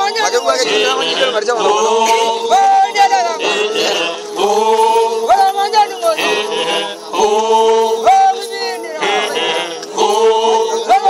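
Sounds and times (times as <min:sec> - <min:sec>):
group chanting in chorus: 0:00.2 - 0:05.6, 0:06.2 - 0:08.3, 0:09.0 - 0:11.0.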